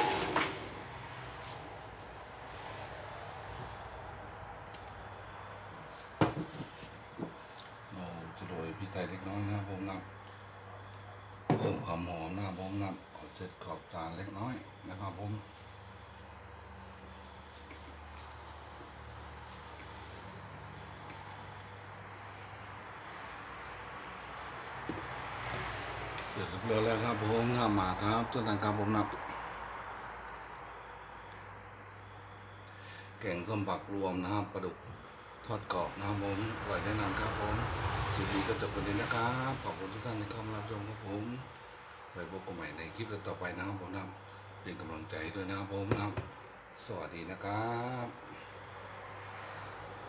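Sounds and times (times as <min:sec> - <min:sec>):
cricket chirping: 0:00.0 - 0:50.0.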